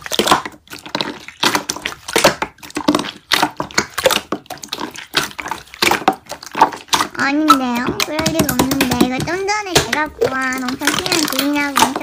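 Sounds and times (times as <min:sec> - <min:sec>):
slime squishing and popping: 0:00.0 - 0:12.0.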